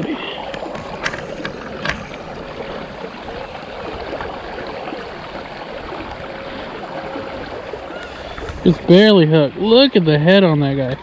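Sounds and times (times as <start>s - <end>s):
river water rushing: 0.0s - 10.6s.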